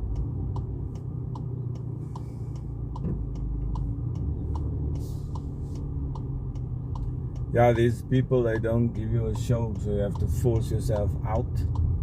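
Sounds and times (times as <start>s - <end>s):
car engine rumble: 0.0s - 12.0s
turn signal ticking: 0.0s - 12.0s.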